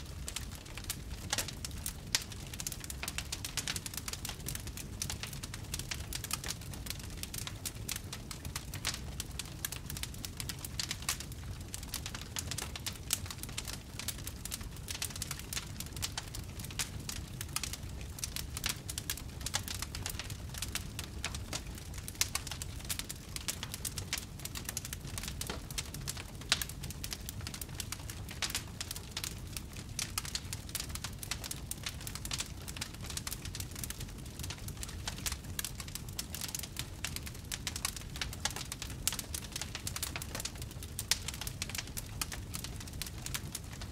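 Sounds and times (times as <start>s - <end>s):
low fire rumble: 0.0s - 43.9s
wood fire crackling: 0.0s - 43.9s.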